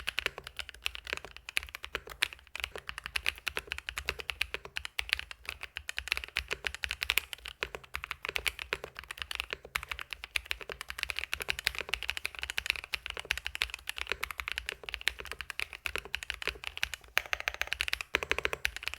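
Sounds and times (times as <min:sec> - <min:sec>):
mechanical keyboard typing: 0:00.0 - 0:18.9.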